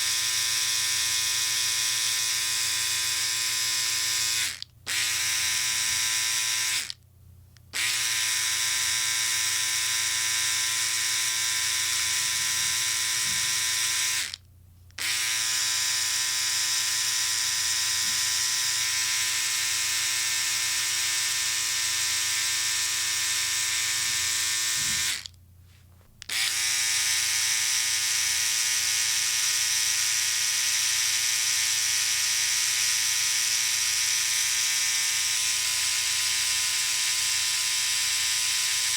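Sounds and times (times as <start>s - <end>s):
electric shaver buzzing: 0.0s - 7.0s, 7.8s - 14.4s, 15.0s - 25.3s, 26.3s - 38.9s.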